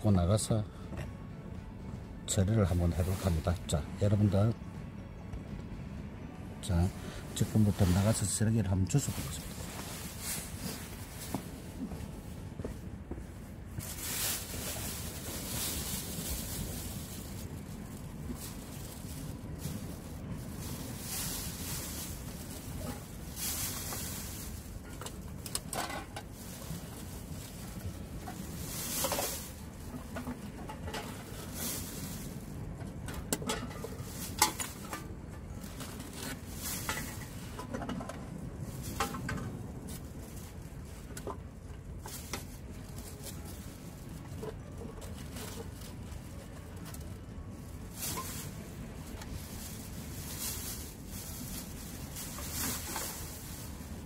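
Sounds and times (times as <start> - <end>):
low wind rumble: 0.0 - 54.0
plastic bag rustling: 6.6 - 54.0.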